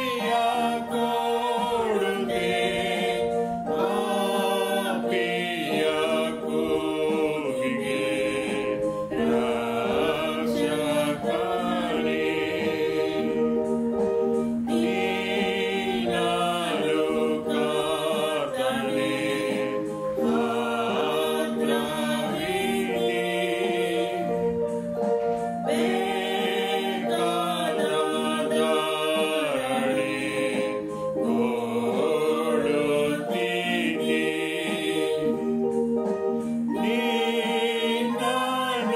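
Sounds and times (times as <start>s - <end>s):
woman singing a hymn: 0.0s - 13.7s, 14.7s - 24.4s, 25.6s - 35.4s, 36.7s - 38.9s
electronic keyboard chords: 0.0s - 38.9s.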